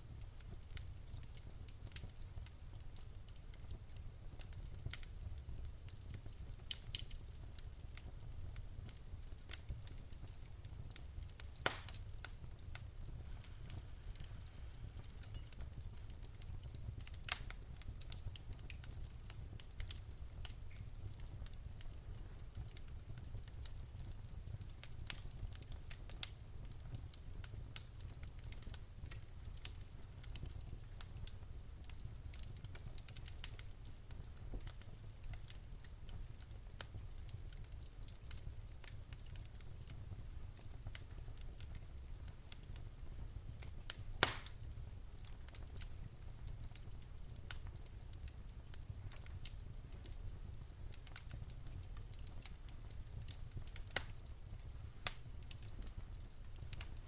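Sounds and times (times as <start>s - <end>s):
low rumble of flames: 0.0s - 57.0s
logs crackling and popping: 0.1s - 57.0s.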